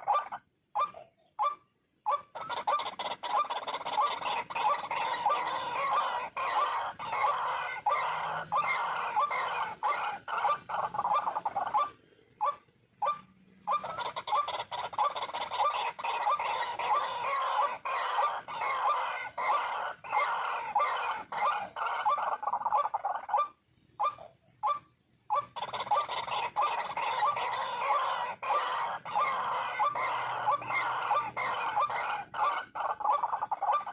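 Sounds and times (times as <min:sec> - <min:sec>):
waterhens calling: 0:00.0 - 0:33.9.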